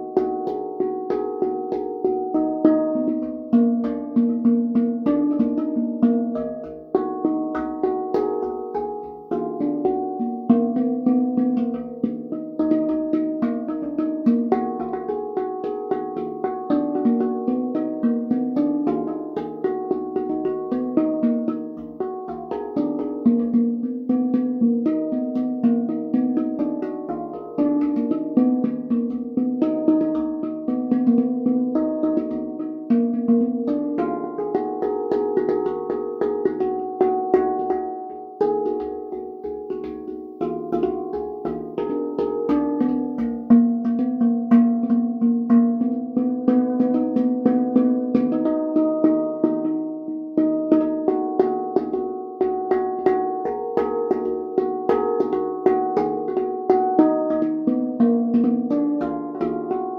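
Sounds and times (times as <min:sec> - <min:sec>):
handpan melody: 0:00.0 - 0:59.9.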